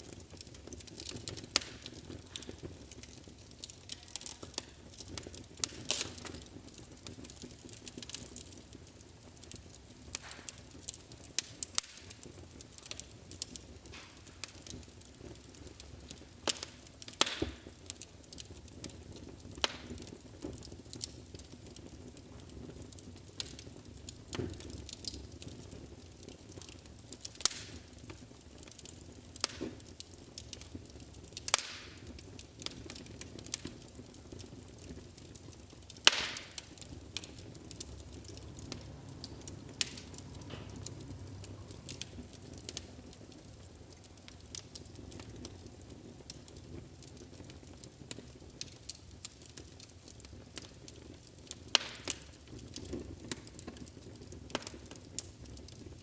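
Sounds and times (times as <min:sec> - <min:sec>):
burning logs hissing and rumbling: 0:00.0 - 0:56.0
wood fire crackling and popping: 0:00.0 - 0:56.0.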